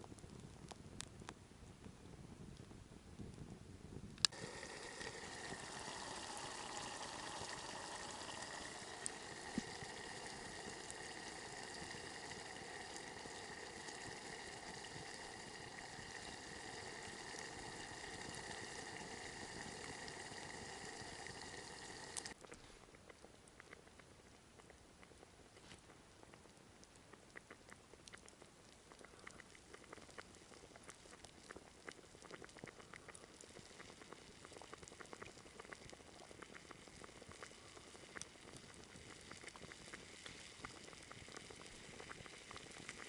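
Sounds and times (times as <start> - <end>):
campfire crackles: 0.0 - 43.0
chili bubbling in a pot: 0.0 - 43.0.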